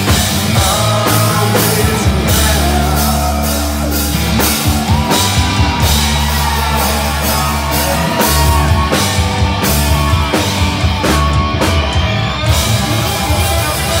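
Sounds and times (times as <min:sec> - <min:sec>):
bass guitar: 0:00.0 - 0:14.0
drum kit beat: 0:00.0 - 0:14.0
guitar: 0:00.0 - 0:14.0.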